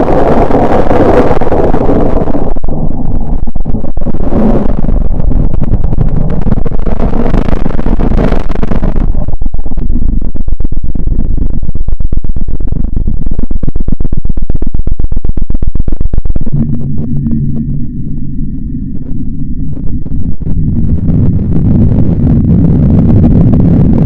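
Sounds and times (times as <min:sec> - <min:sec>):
deep rumbling drone: 0:00.0 - 0:24.0
rapid crackling pulses: 0:00.0 - 0:24.0.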